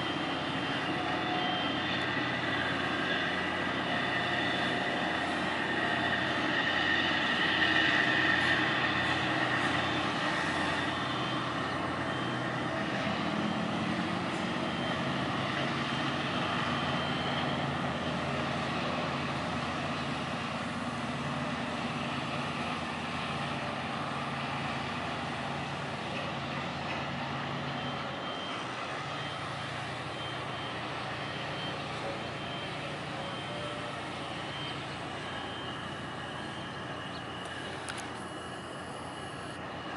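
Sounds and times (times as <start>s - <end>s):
boat diesel engine drone: 0.0s - 39.9s.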